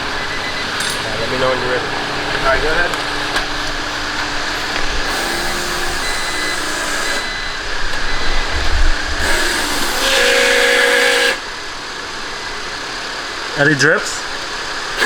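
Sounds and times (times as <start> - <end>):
machine running with hiss: 0.0 - 15.0.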